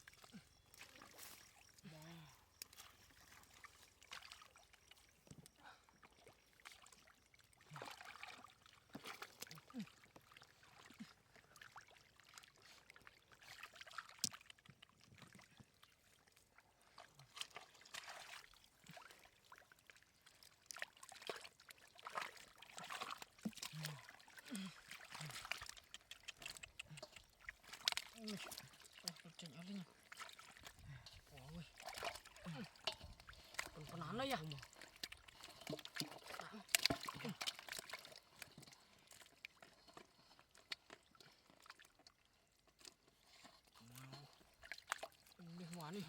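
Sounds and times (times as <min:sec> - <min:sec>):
water sloshing and splashing: 0:00.0 - 0:46.0.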